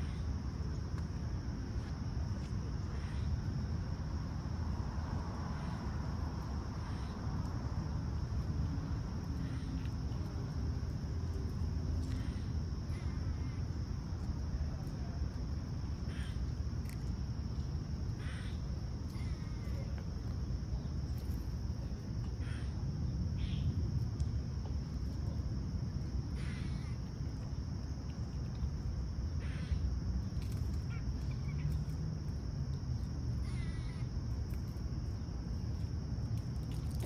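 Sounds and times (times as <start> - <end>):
insects droning: 0.0 - 37.0
low background rumble: 0.0 - 37.0.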